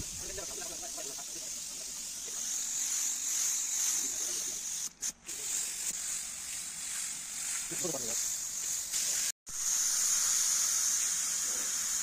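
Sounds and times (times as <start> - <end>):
paint spray gun hissing: 0.0 - 12.0.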